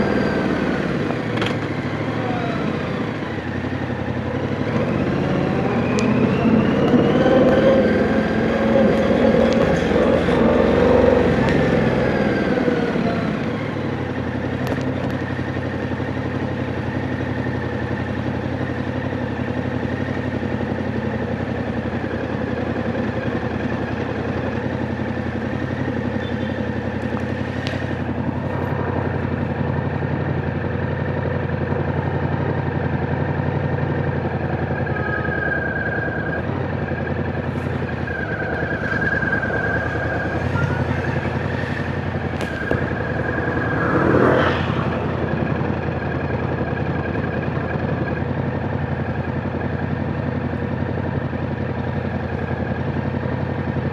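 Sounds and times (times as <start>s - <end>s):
motorcycle engine: 0.0s - 53.9s.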